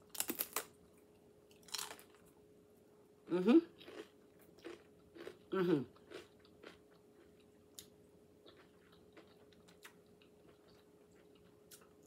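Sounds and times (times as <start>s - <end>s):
closed-mouth chewing of crunchy cracker: 0.0s - 0.8s, 1.5s - 2.4s, 3.7s - 12.0s.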